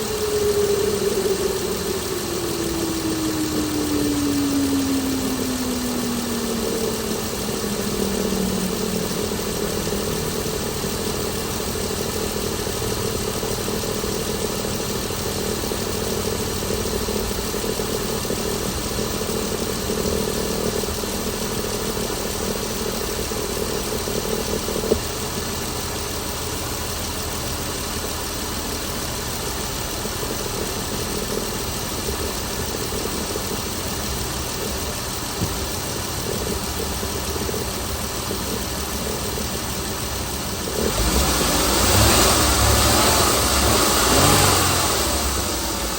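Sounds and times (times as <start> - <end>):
car engine idling: 0.0 - 45.9
steady whine: 0.0 - 45.9.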